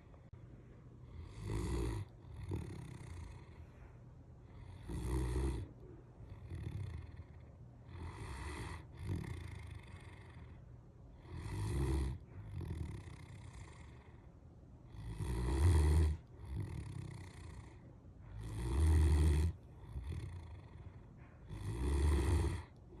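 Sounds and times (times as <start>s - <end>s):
dog breathing: 1.0s - 23.0s
dog snoring: 1.0s - 23.0s.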